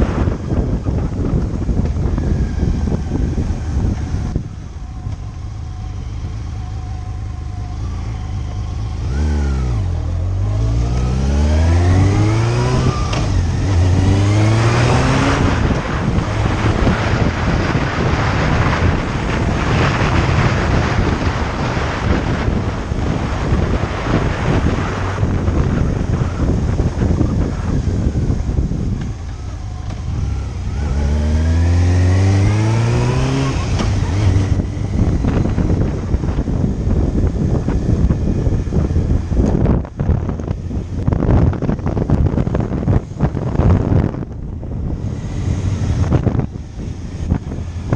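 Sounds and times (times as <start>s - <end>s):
motorcycle engine accelerating: 0.0s - 47.9s
wind rushing over microphone: 0.0s - 47.9s.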